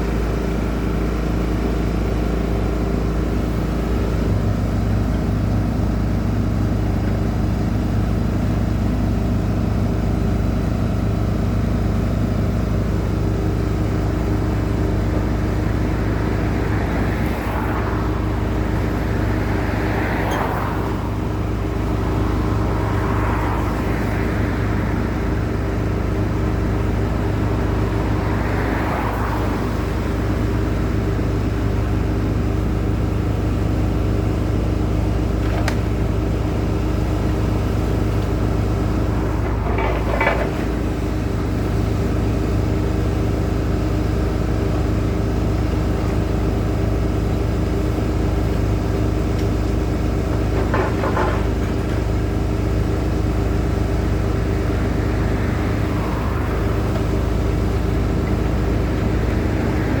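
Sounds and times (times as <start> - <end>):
diesel machinery rumbling: 0.0 - 60.0.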